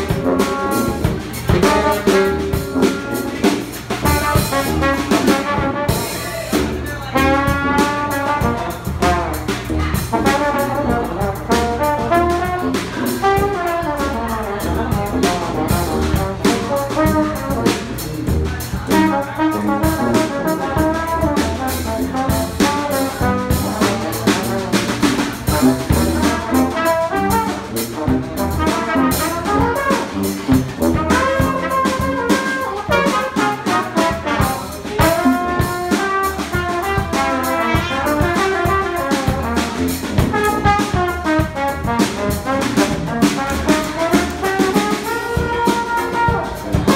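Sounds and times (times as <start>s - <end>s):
drum kit with cymbals: 0.0s - 46.9s
trombone and trumpet: 0.0s - 46.9s.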